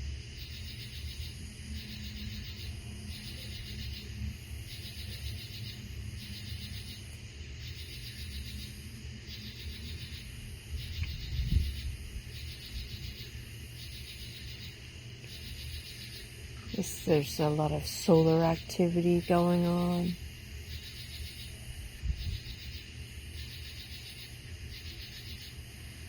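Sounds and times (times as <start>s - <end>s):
insects pulsed buzzing: 0.0s - 26.0s.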